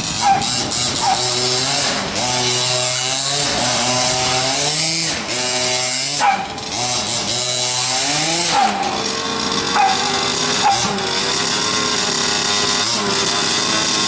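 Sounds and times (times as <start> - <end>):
model car engine revving: 0.0 - 14.0.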